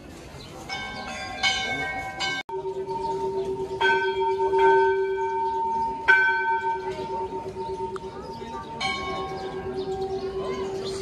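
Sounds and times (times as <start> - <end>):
temple bells ringing: 0.6 - 11.0.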